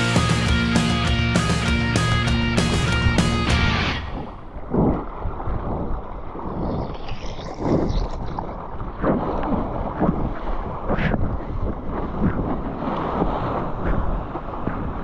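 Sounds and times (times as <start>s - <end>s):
wind noise on microphone: 2.4s - 15.0s
water splashing past a surfboard: 2.6s - 15.0s.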